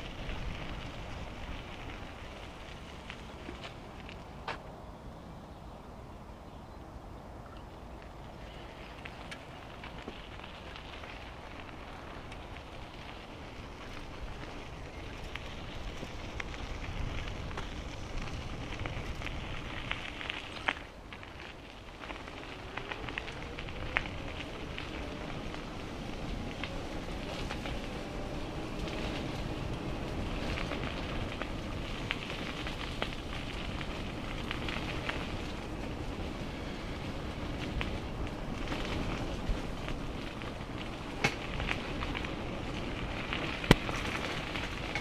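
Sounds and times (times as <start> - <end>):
bike clicks and crackles: 0.0 - 4.8, 7.4 - 45.0
bicycle tyres rolling: 0.0 - 45.0.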